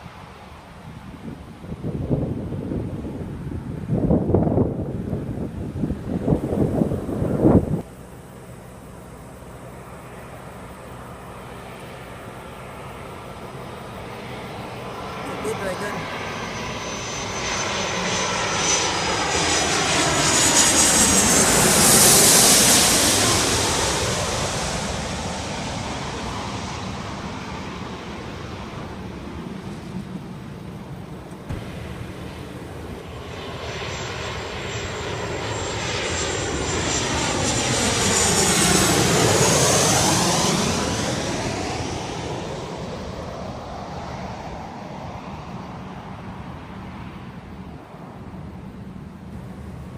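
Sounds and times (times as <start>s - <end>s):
jet airliner passing overhead: 0.0s - 49.9s.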